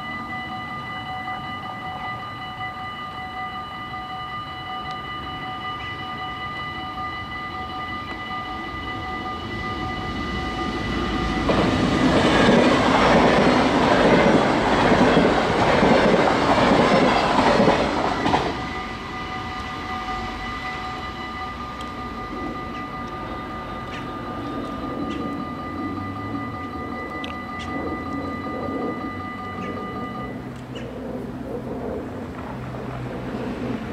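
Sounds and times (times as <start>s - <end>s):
electric train passing: 0.0s - 33.9s
level crossing warning bells: 0.0s - 33.9s.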